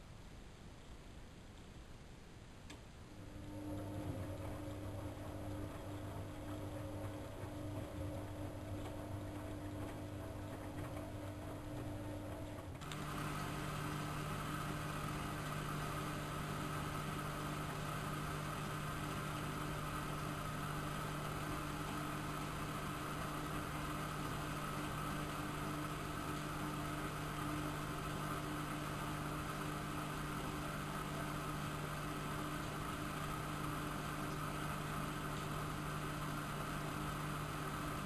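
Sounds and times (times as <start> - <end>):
washing machine hum: 3.1 - 38.0.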